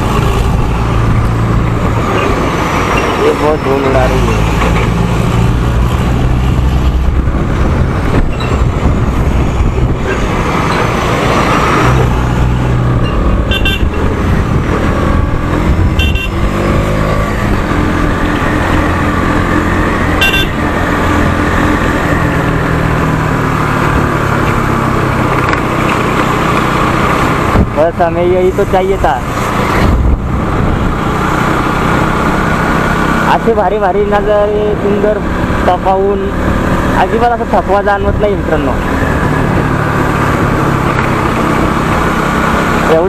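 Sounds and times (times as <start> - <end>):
motorbike engine and wind rumble: 0.0 - 43.0
vehicles in traffic: 0.0 - 43.0.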